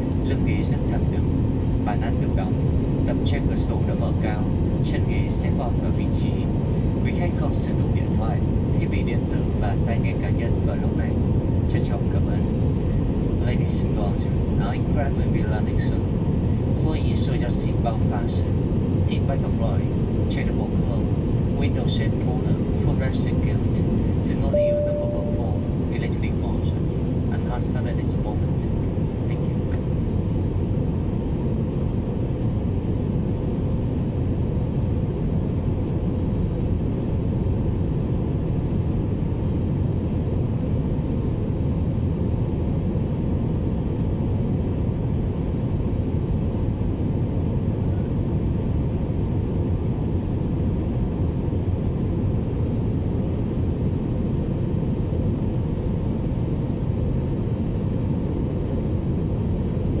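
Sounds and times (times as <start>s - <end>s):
jet engines roaring in cabin: 0.0s - 60.0s.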